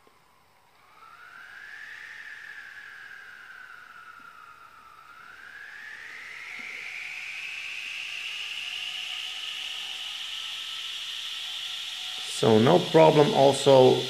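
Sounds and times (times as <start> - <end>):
small motor whining: 0.7 - 14.0.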